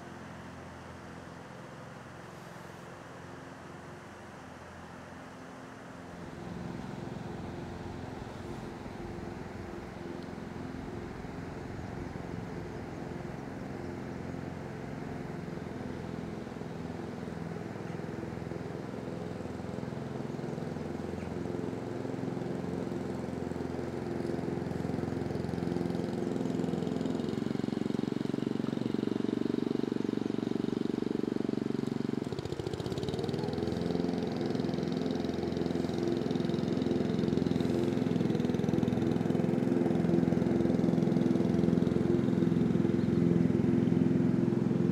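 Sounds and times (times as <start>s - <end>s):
motor engine running: 0.0s - 44.9s.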